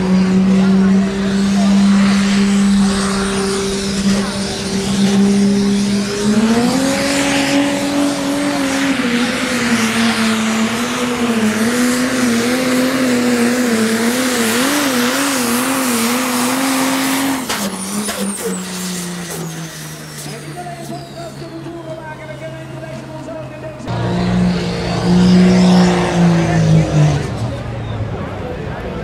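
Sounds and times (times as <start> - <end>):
diesel engine under full load: 0.0 - 29.0.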